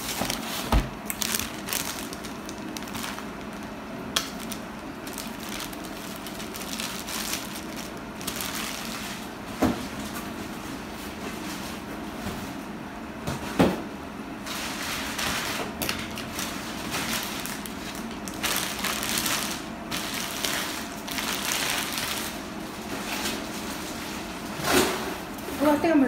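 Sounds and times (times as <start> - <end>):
packaging rustling and crinkling: 0.0 - 11.8, 14.4 - 24.4.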